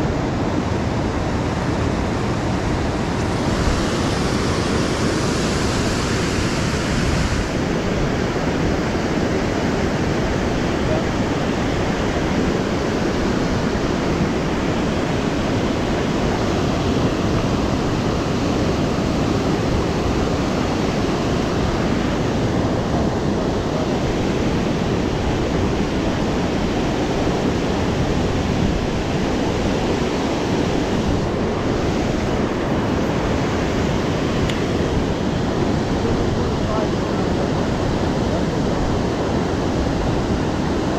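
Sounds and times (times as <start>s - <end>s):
whitewater rushing over a dam: 0.0s - 40.9s.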